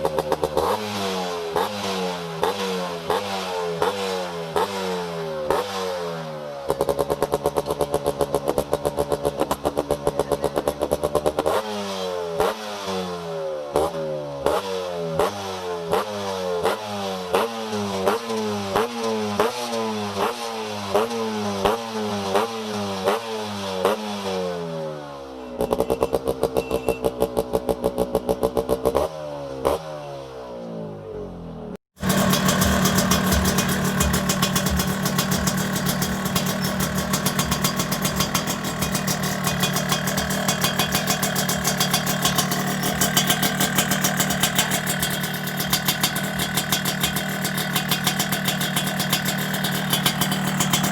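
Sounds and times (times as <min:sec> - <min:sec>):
motorcycle engine revving: 0:00.0 - 0:30.6, 0:31.9 - 0:50.9.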